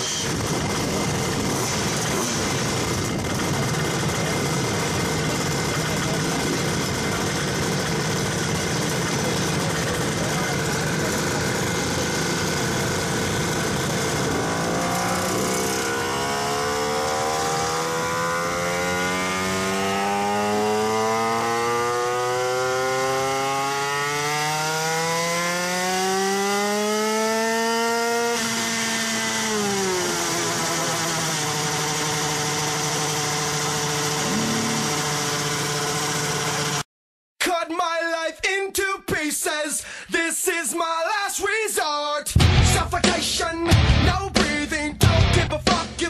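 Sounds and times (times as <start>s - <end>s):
moped engine revving: 0.0s - 36.9s.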